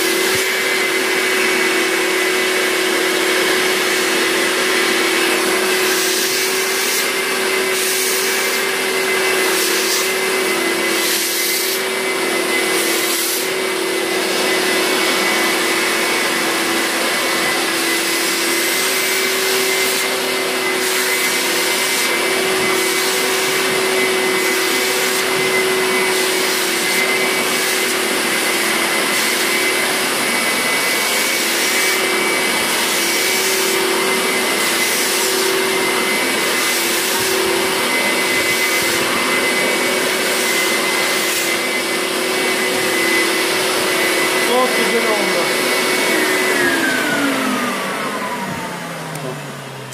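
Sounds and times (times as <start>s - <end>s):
vacuum suction on wet fabric: 0.0s - 49.5s
wet-extraction vacuum motor humming: 0.0s - 49.9s.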